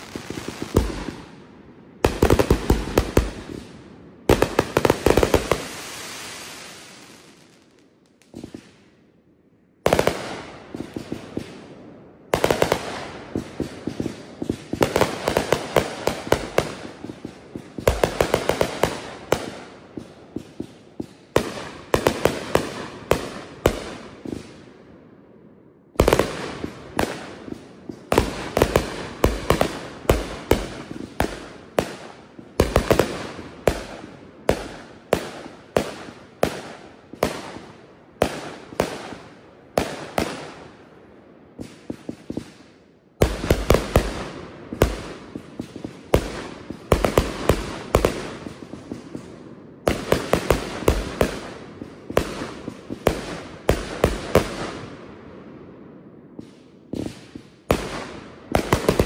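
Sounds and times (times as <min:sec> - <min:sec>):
fireworks bangs and bursts: 0:00.0 - 0:09.0, 0:09.8 - 0:24.8, 0:25.9 - 0:59.0.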